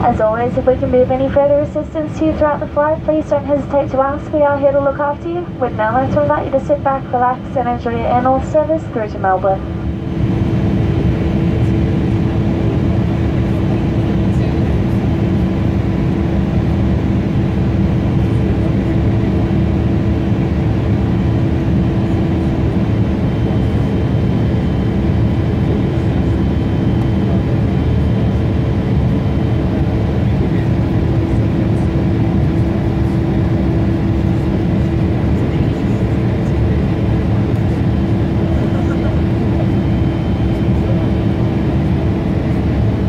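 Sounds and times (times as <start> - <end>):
jet cabin drone: 0.0 - 43.0
steady low hum: 0.0 - 43.0.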